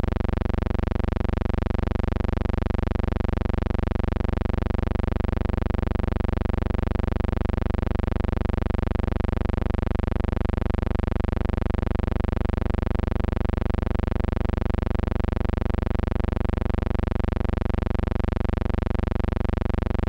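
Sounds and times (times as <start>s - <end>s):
buzzing hum: 0.0s - 20.0s.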